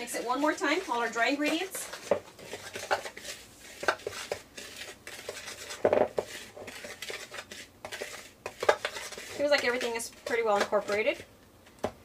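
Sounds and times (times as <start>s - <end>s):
metal utensil scraping plastic bowl: 0.0s - 11.3s.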